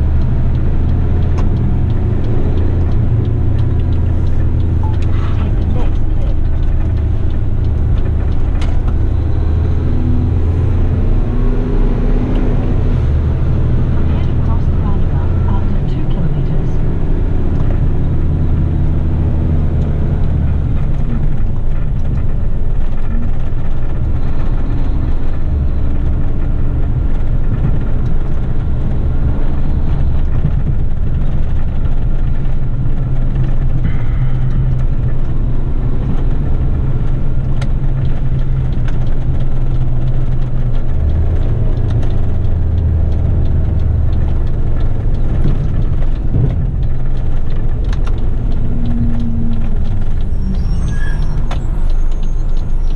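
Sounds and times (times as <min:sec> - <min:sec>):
diesel engine running: 0:00.0 - 0:52.9
tyre road noise: 0:00.0 - 0:52.9.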